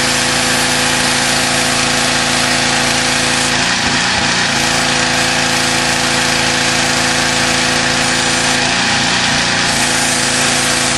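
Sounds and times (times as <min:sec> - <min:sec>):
pressure washer engine running: 0:00.0 - 0:10.9.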